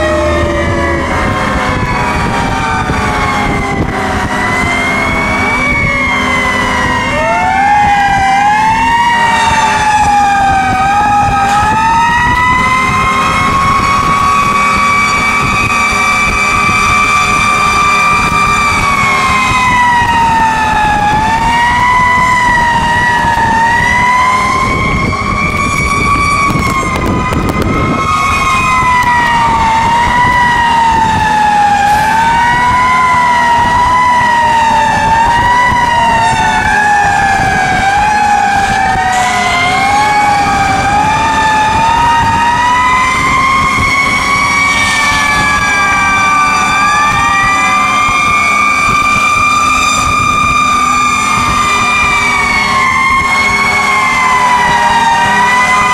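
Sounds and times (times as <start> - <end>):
fire engine sirens wailing: 0.0 - 55.9
truck engine rumbling: 0.0 - 55.9.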